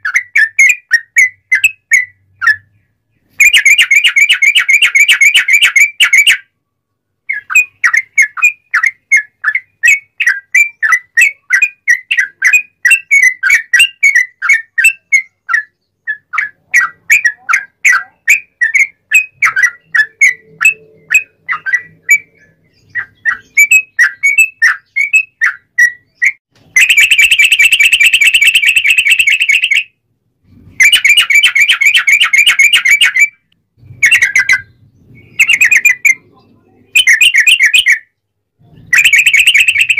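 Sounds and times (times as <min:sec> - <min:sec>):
bulbul singing whistled notes: 0:00.0 - 0:06.5, 0:07.3 - 0:30.0, 0:30.8 - 0:36.2, 0:36.9 - 0:38.2, 0:38.8 - 0:39.9.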